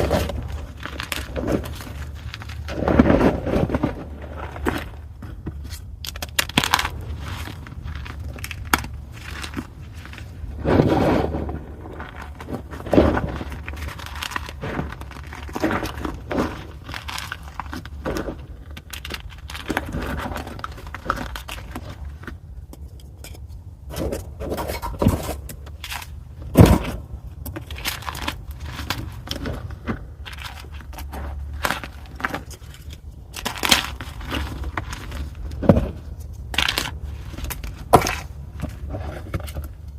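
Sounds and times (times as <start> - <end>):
chalk being crushed: 0.0 - 22.9, 24.8 - 39.9.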